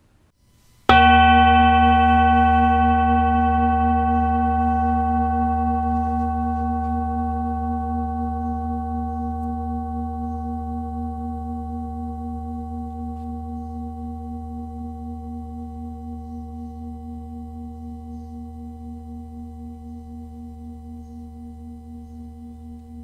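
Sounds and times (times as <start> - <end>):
prayer bell ringing: 0.9 - 23.0.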